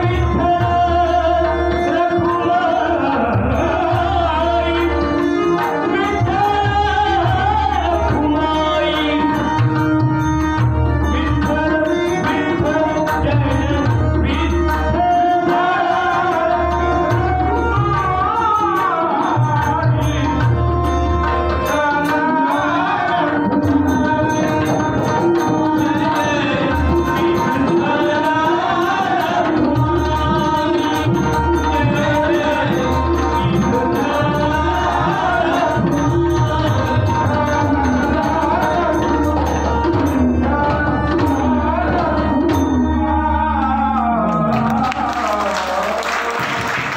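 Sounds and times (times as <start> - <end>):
harmonium sustained notes: 0.0 - 43.9
man singing: 0.0 - 46.9.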